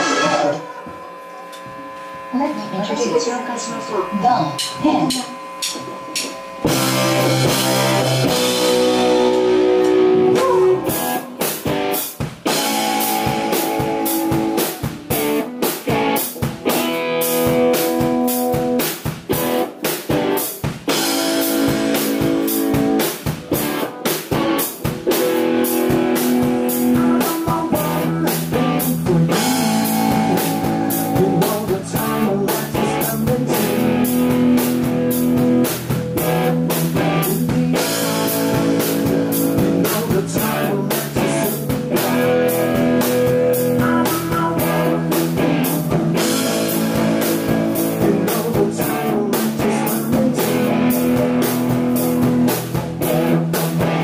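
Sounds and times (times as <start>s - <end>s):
electric guitar chords: 0.0s - 54.0s
driving drum kit: 2.8s - 54.0s.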